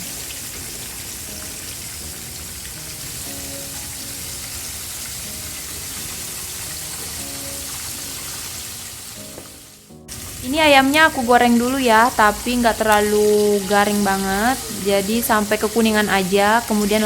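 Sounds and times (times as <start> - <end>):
chicken sizzling in hot oil: 0.0 - 17.0
soft background music: 0.0 - 17.0.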